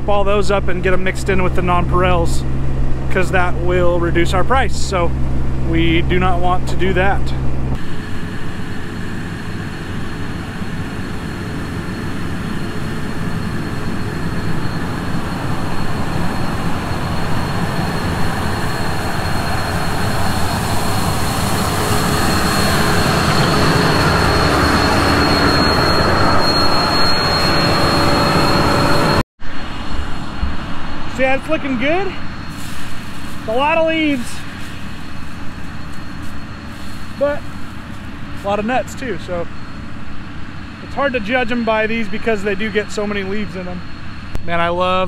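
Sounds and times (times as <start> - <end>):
high whine: 0.0 - 45.0
sweeper engine and blower fan: 0.0 - 45.0.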